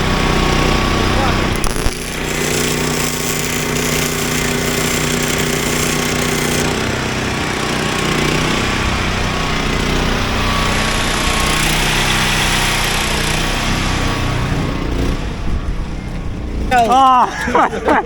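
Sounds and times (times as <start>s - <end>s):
power tool whining: 0.0s - 16.9s
generator engine running: 0.0s - 18.0s.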